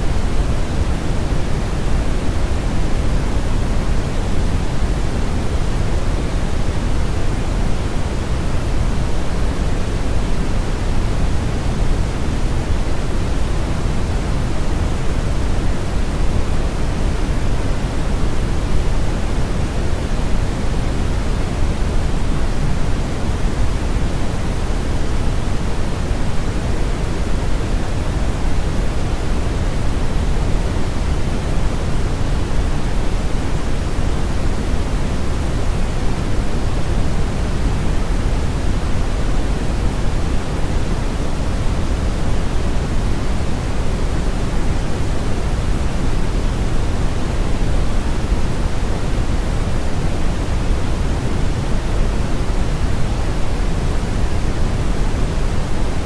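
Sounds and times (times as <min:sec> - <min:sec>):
brown noise hiss: 0:00.0 - 0:56.0.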